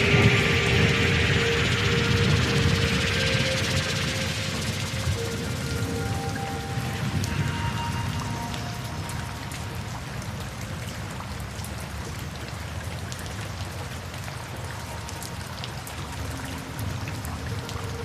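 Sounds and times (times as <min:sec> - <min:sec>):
faint soft music: 0:00.0 - 0:18.0
raindrops ticking on a surface: 0:00.0 - 0:18.0
steady rain falling: 0:00.0 - 0:18.0.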